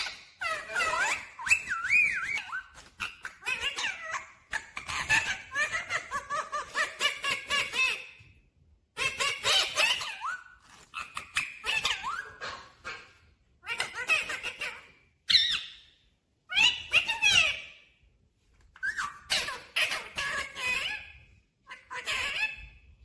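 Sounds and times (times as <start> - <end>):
parakeet chattering and whistling: 0.0 - 8.1, 9.0 - 17.8, 18.8 - 22.8.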